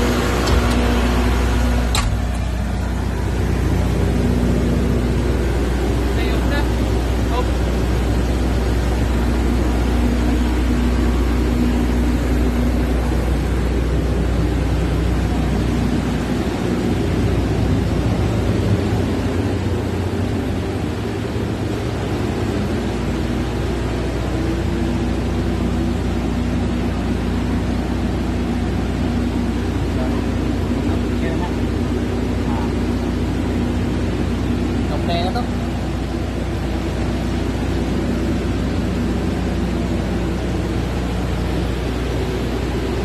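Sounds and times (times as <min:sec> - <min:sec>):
deep even hum: 0:00.0 - 0:43.0
generator engine drone: 0:00.0 - 0:43.0.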